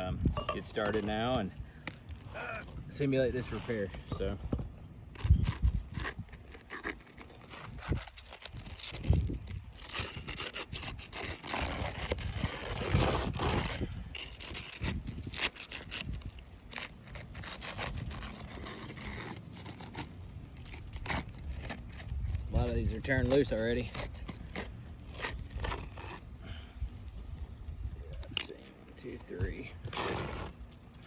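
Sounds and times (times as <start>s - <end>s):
scraper scraping roof shingles: 2.2s - 27.4s, 28.4s - 31.0s.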